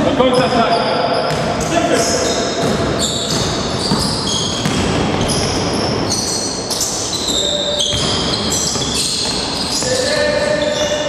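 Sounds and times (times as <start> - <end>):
sneakers squeaking on gym floor: 0.0 - 11.0
basketball bouncing: 0.3 - 11.0.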